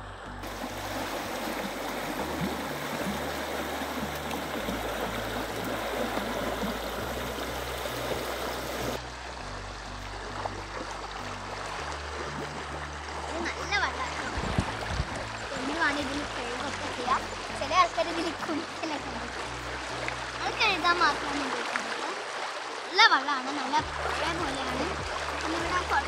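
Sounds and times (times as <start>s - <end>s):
soft background music: 0.0s - 26.0s
river water rushing: 0.4s - 26.0s.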